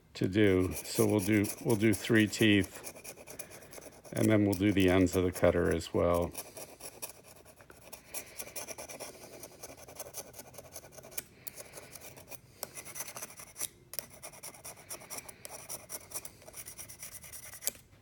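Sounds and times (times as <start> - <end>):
knife scraping metal: 0.4 - 17.8.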